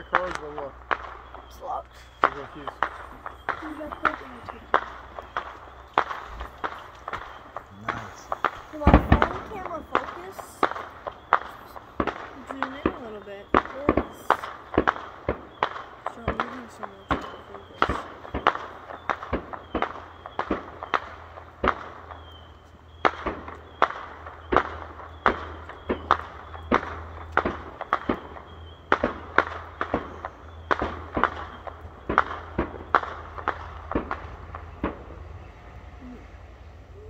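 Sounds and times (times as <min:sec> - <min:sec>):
distant fireworks bangs: 0:00.0 - 0:37.0.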